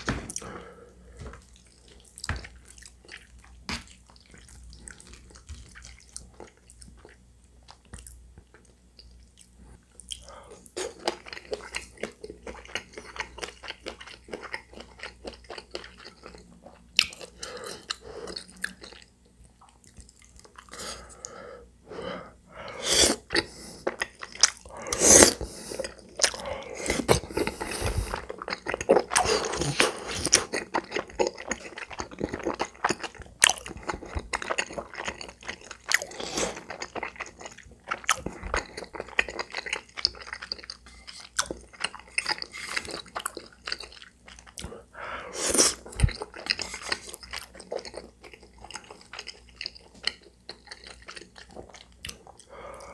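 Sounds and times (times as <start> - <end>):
close chewing with mouth clicks: 1.3 - 21.2, 23.1 - 44.9, 45.5 - 52.9.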